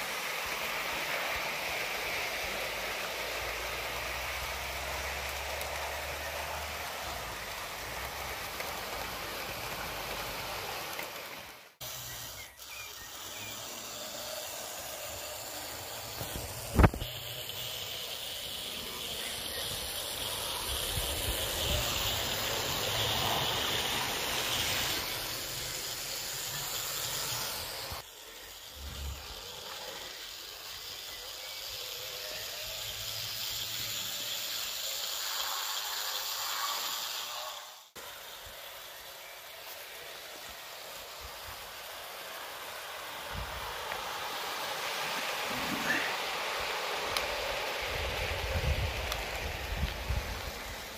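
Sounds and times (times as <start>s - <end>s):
model train whirring and rattling: 0.0s - 50.9s.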